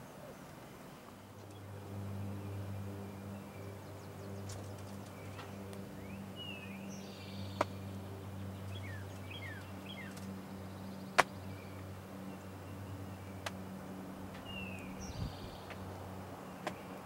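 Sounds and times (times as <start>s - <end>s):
small songbirds chirping: 0.0s - 17.0s
steady low hum: 0.0s - 17.0s.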